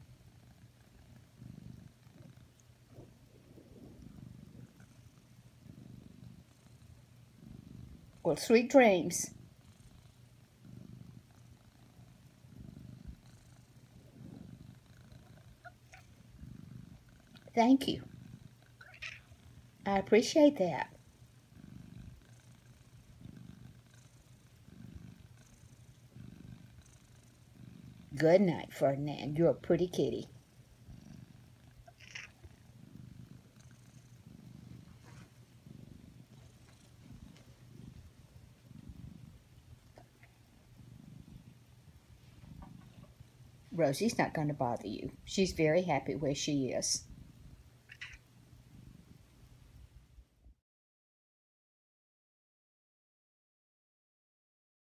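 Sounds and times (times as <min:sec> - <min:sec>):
cat purring softly: 0:00.0 - 0:50.6.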